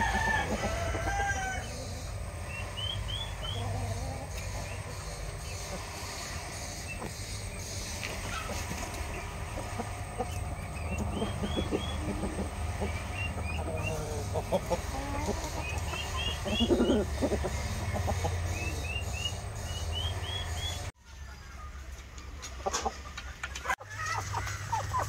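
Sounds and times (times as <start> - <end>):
steady low hum: 0.0 - 21.0
chickens clucking: 0.0 - 25.0.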